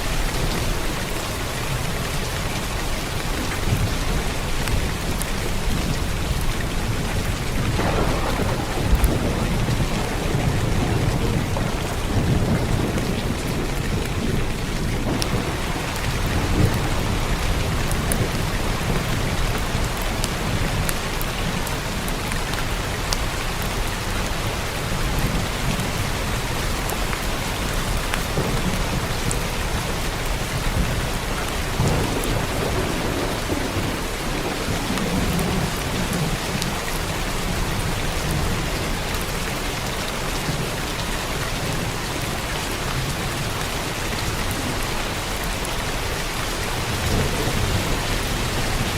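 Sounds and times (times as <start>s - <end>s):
thunder rumbling: 0.0s - 23.3s, 24.4s - 48.9s
rain on a roof: 0.0s - 48.9s.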